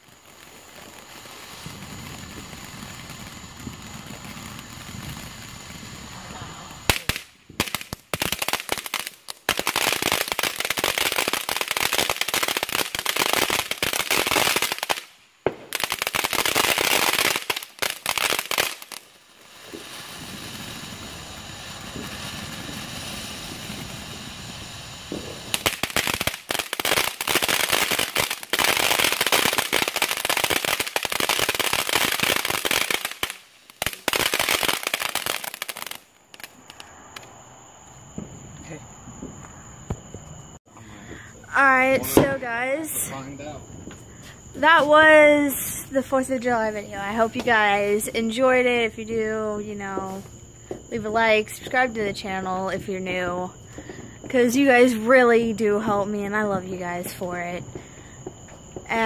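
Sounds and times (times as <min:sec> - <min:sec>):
firework crackling: 0:00.0 - 0:59.0
firework hissing: 0:00.0 - 0:59.0.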